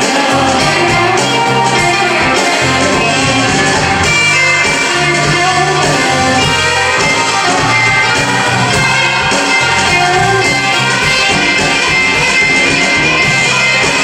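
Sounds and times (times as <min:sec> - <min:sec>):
blues-rock band playing: 0:00.0 - 0:14.0
electric guitar: 0:00.0 - 0:14.0.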